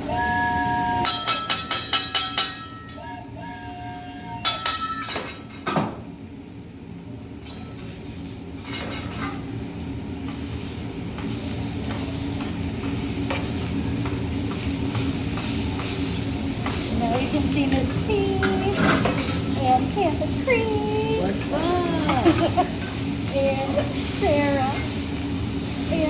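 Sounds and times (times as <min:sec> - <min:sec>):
food sizzling on a griddle: 0:03.9 - 0:26.0.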